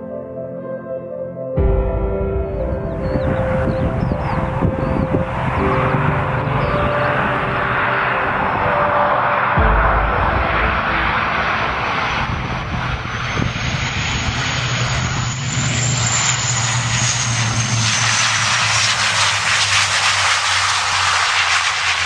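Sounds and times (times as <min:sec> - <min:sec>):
high turbine whine: 0:01.6 - 0:22.0
turboprop engines droning: 0:01.6 - 0:22.0.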